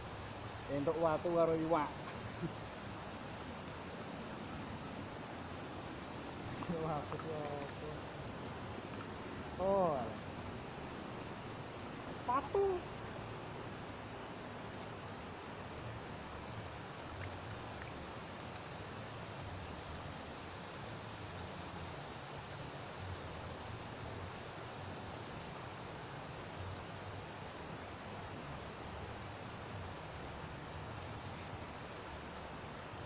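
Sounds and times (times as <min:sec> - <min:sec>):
high-pitched insect whine: 0:00.0 - 0:33.0
pulsing insect trill: 0:00.0 - 0:33.0.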